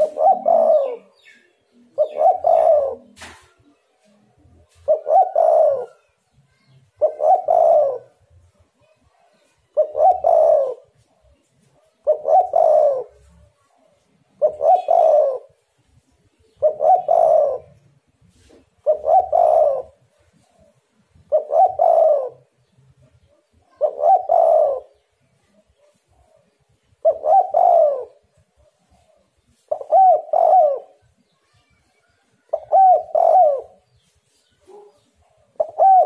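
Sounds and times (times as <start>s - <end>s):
dove cooing: 0.0s - 6.1s, 6.9s - 15.7s, 16.4s - 31.3s, 32.2s - 36.0s.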